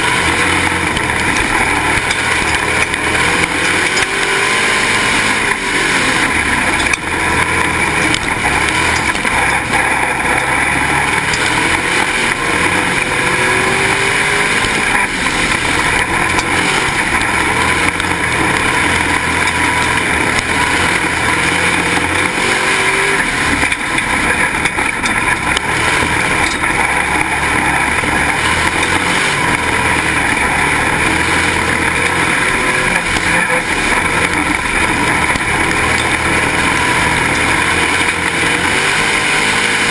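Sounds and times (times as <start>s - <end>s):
race car engine running hard: 0.0s - 39.9s
wind and road noise: 0.0s - 39.9s.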